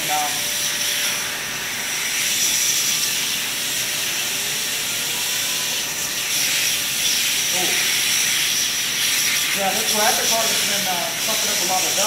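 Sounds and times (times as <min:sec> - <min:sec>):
air duster hissing: 0:00.0 - 0:12.0
high motor whine: 0:00.0 - 0:12.0.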